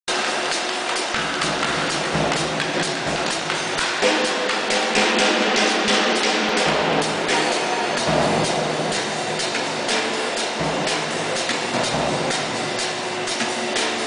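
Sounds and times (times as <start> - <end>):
drum kit played with sticks: 0.1 - 14.0.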